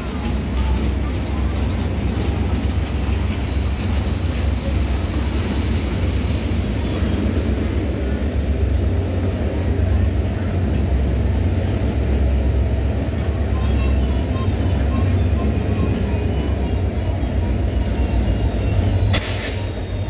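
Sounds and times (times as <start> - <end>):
rail noise: 0.0 - 20.0
train rumbling on track: 0.0 - 20.0.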